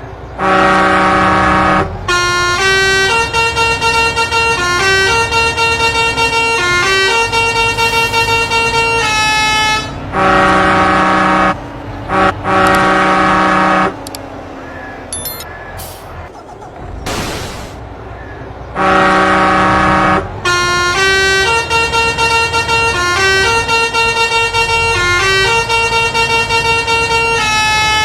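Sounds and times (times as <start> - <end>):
multi-tone musical truck horn: 0.4 - 14.0, 18.7 - 28.0.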